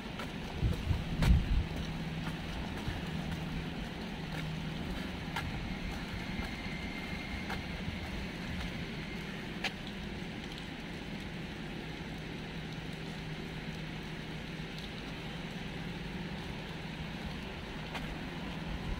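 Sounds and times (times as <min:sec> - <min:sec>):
low engine hum: 0:00.0 - 0:18.9
rain: 0:00.0 - 0:18.9
traffic: 0:00.0 - 0:18.9.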